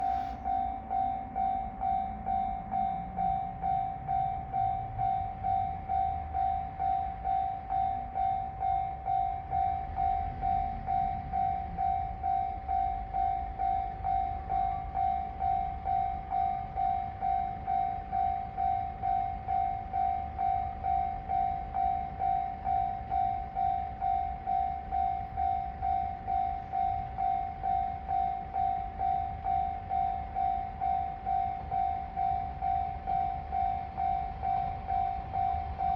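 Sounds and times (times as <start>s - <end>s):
diesel railcar passing: 0.0s - 35.9s
level crossing alarm ringing: 0.0s - 35.9s.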